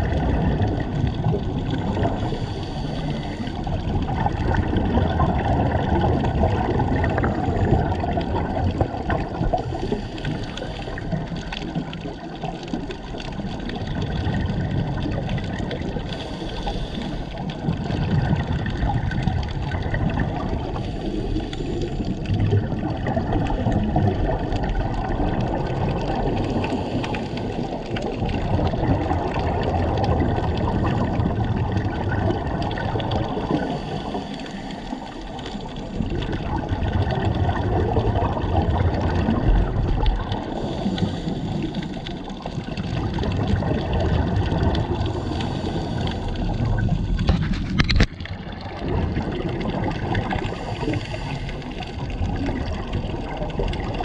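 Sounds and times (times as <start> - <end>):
muffled underwater water rush: 0.0 - 54.0
scuba exhaust bubbles gurgling: 0.0 - 54.0.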